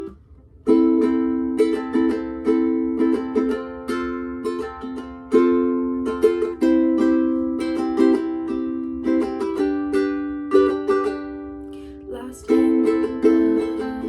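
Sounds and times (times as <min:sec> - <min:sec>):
strummed string instrument chords: 0:00.0 - 0:14.0.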